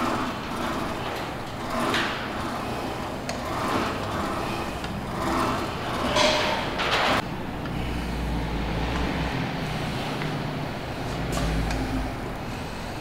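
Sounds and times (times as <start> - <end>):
exercise machine reps: 0.0 - 13.0.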